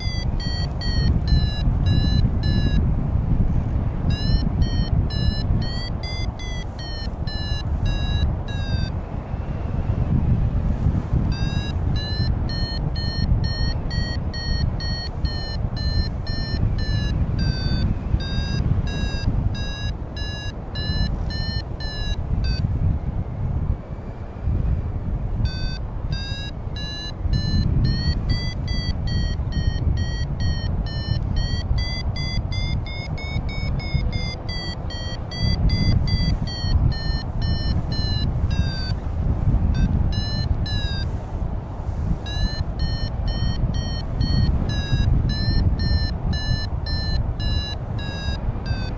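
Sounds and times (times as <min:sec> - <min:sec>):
variometer beeping: 0:00.0 - 0:02.9, 0:04.0 - 0:09.0, 0:11.2 - 0:22.7, 0:25.4 - 0:41.2, 0:42.1 - 0:48.9
wind rush on microphone: 0:00.0 - 0:48.9.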